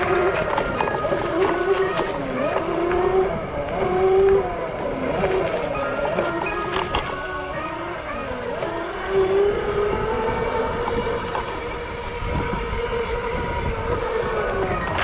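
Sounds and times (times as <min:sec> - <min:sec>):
dirt bike engine droning: 0:00.0 - 0:15.0.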